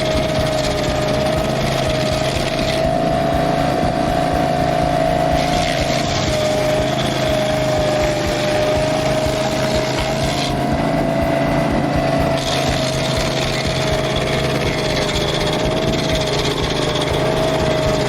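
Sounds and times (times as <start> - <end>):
cutting wheel grinding stump: 0.0 - 18.0
steady whine: 0.0 - 18.0
stump grinder engine running: 0.0 - 18.0.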